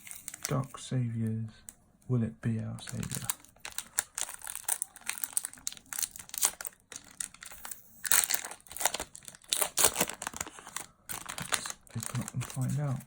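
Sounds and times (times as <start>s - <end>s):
foil wrapper crinkling: 0.0s - 0.7s, 2.8s - 13.0s.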